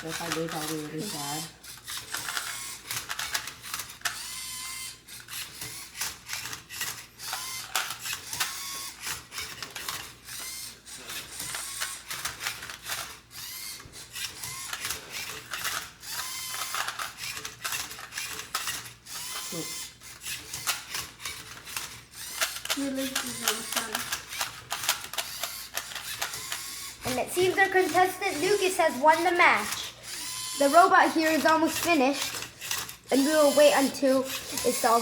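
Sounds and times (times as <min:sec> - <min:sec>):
robot motors whirring: 0:00.0 - 0:35.0.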